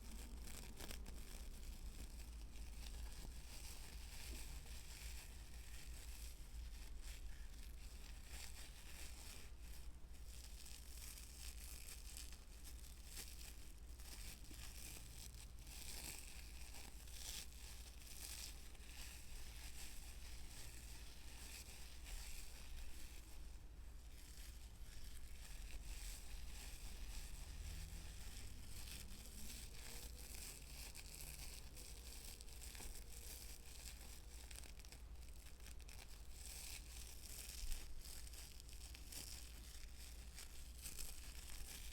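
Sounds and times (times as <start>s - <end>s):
soft crinkling and scratching: 0.0s - 41.9s.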